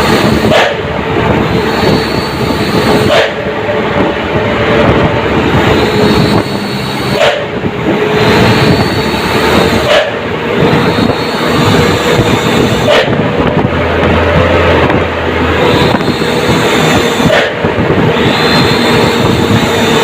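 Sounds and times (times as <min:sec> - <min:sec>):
road and wind noise: 0:00.0 - 0:20.0
truck diesel engine running: 0:00.0 - 0:20.0.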